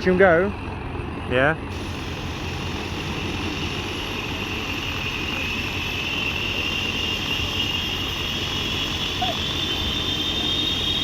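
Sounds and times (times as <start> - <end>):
helicopter engine and rotor rumble: 0.0 - 11.0
high whine rising in pitch: 1.7 - 11.0.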